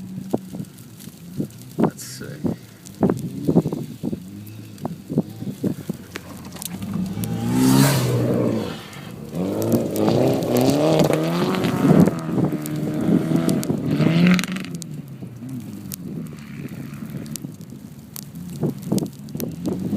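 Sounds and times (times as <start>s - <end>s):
car engine revving: 0.0s - 17.5s.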